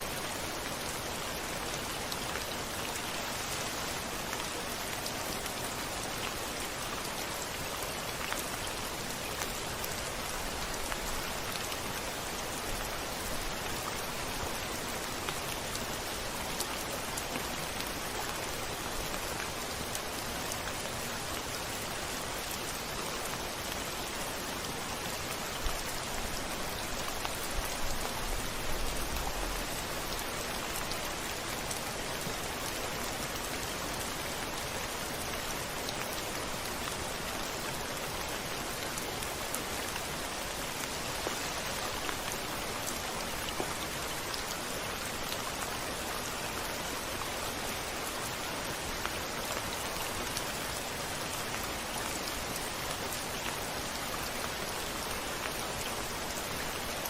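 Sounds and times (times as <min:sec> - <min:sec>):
rain on a window pane: 0:00.0 - 0:57.0.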